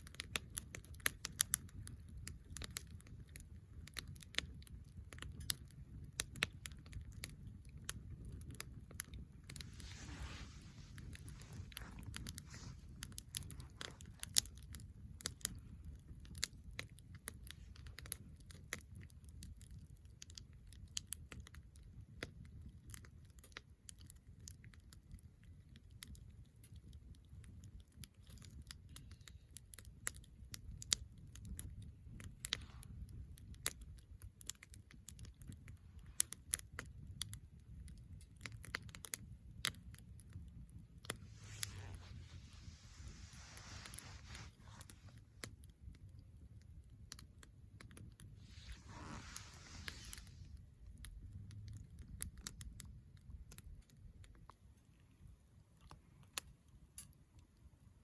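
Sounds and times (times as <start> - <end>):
firewood crackling and popping: 0.0 - 58.0
low steady fire rumble: 0.0 - 58.0.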